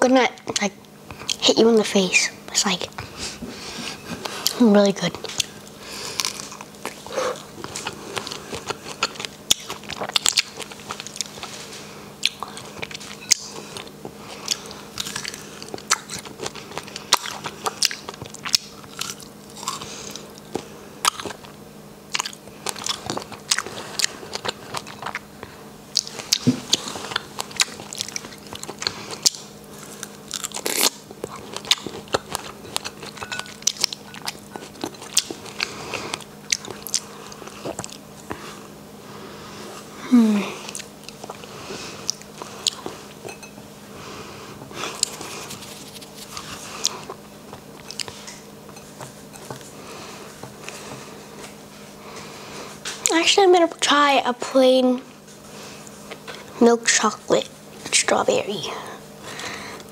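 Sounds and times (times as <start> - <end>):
close-up chewing: 3.0 - 38.8, 40.5 - 53.2.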